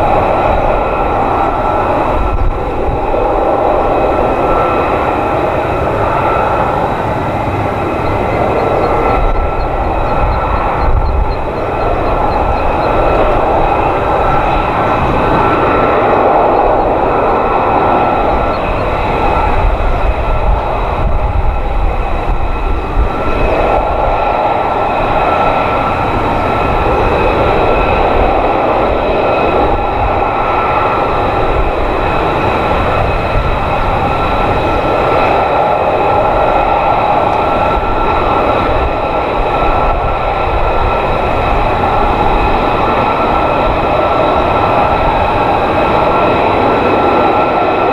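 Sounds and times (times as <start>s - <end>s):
jet engine whining: 0.0s - 47.9s.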